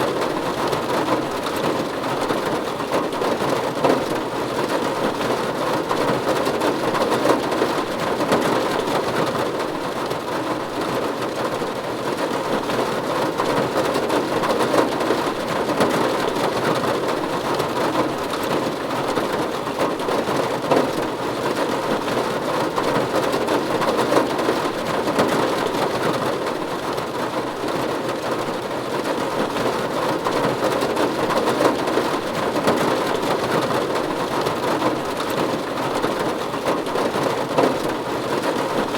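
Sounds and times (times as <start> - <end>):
rain falling on a roof: 0.0 - 38.9.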